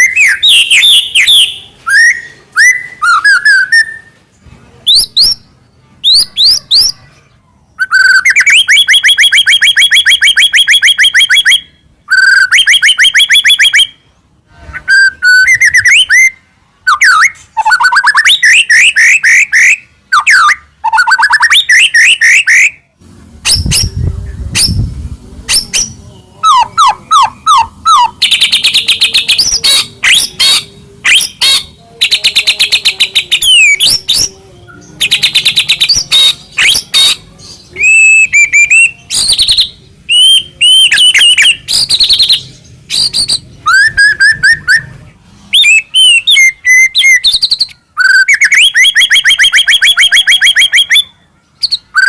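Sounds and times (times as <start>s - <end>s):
songbird whistling and trilling: 0.0s - 4.2s, 4.9s - 7.0s, 7.8s - 14.0s, 14.7s - 24.9s, 25.5s - 52.0s.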